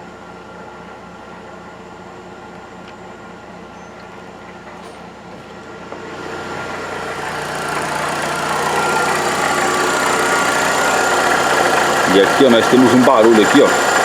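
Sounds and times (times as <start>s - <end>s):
car engine idling: 0.2s - 14.0s.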